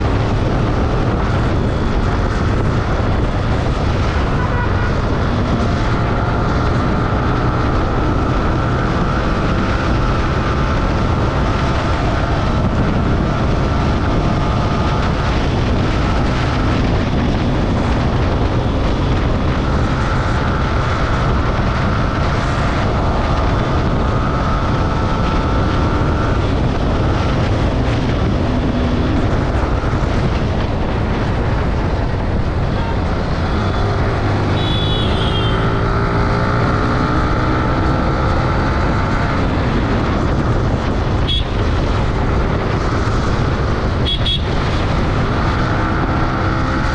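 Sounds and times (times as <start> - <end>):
motorcycle engine running: 0.0 - 46.9
wind noise on microphone: 0.0 - 46.9.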